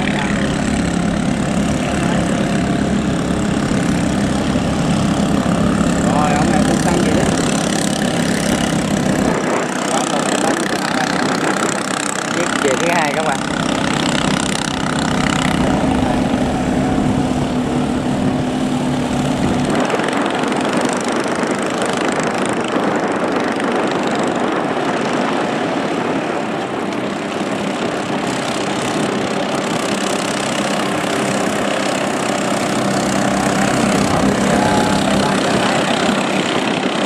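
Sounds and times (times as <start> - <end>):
small boat engines running hard: 0.0 - 37.0.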